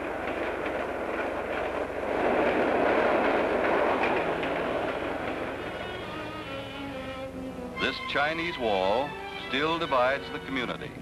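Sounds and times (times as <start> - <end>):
passenger train rumbling past: 0.0 - 11.0.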